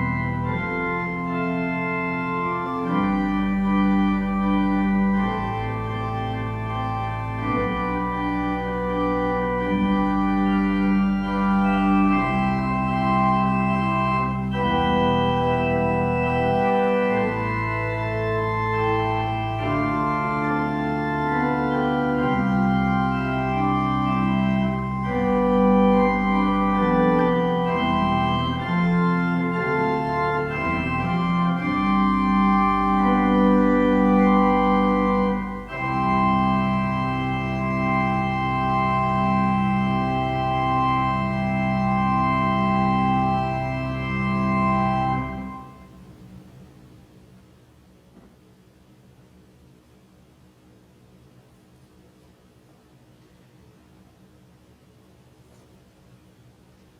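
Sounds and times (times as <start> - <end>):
organ playing chords: 0.0 - 47.0.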